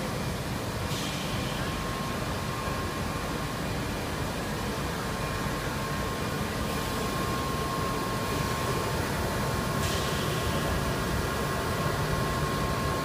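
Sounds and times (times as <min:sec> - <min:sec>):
fan-like hiss: 0:00.0 - 0:13.0
machinery hum: 0:00.0 - 0:13.0
thin steady whine: 0:00.0 - 0:13.0.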